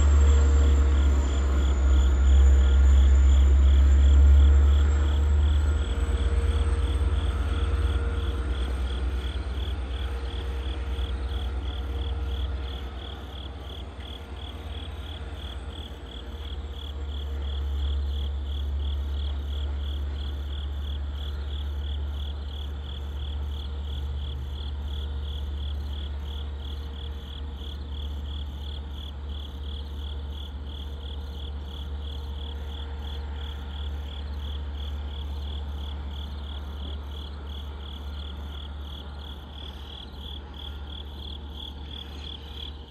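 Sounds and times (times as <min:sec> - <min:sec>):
crickets chirping: 0:00.0 - 0:42.9
steady low rumble: 0:00.0 - 0:42.9.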